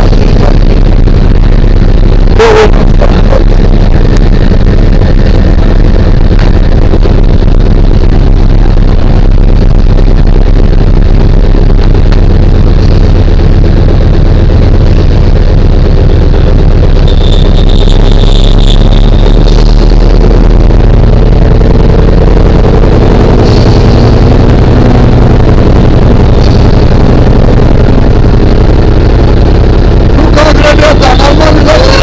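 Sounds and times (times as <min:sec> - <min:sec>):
aircraft engine drone: 0:00.0 - 0:32.0
high steady tone: 0:00.0 - 0:32.0.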